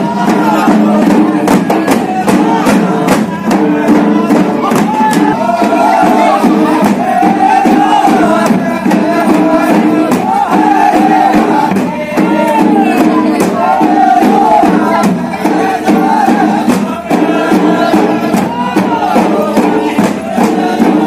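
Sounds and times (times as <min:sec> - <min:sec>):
drums beaten in steady rhythm: 0:00.0 - 0:21.0
group singing: 0:00.0 - 0:21.0.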